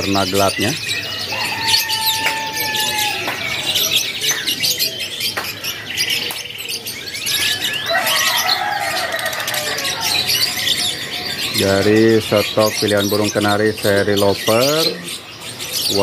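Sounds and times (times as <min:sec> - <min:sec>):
canaries singing and chirping: 0:00.0 - 0:16.0.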